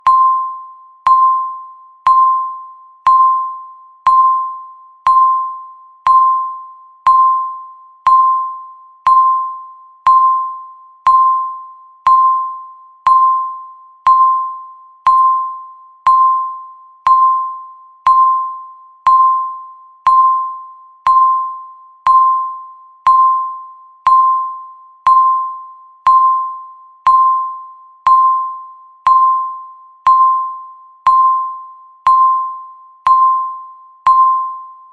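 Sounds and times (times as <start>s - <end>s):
countdown timer beeping: 0.0s - 34.8s.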